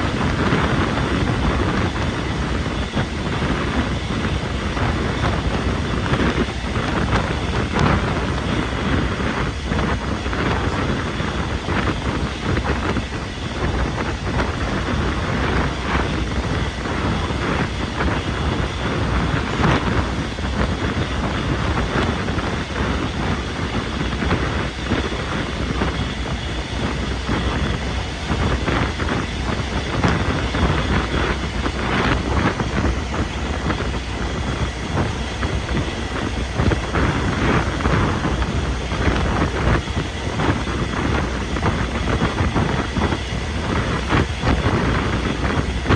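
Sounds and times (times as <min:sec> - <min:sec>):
train running: 0:00.0 - 0:45.9.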